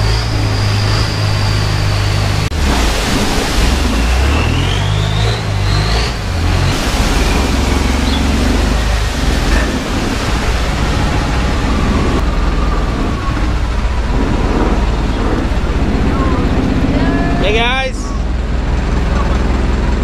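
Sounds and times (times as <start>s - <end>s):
boat engine drone: 0.0s - 20.0s
wind and water rushing: 0.0s - 20.0s.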